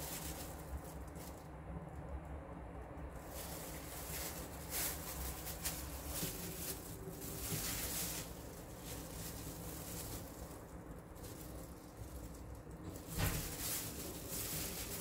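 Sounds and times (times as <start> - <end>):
plastic gloves crinkling: 0.0 - 2.2, 3.0 - 15.0.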